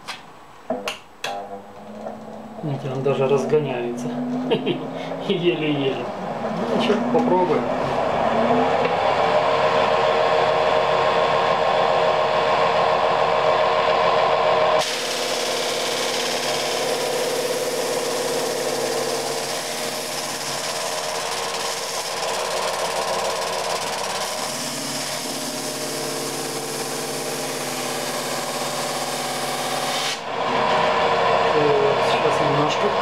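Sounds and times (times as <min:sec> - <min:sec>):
electric motor humming: 0:01.8 - 0:32.6.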